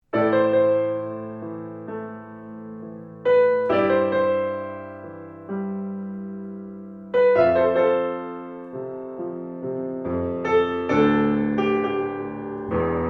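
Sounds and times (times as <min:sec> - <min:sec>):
piano-like keyboard chords: 0:00.0 - 0:13.0.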